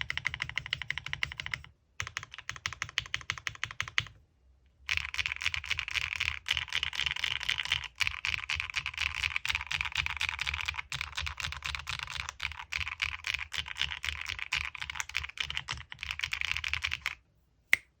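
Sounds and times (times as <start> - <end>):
fast mechanical keyboard typing: 0.0 - 4.1, 4.9 - 17.2.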